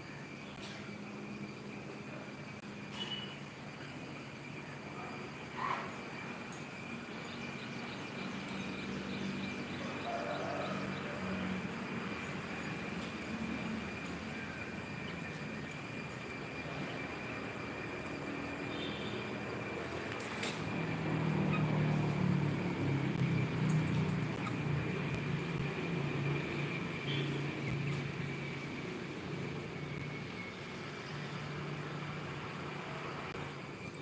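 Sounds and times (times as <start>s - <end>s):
high-pitched whine: 6.1s - 34.0s.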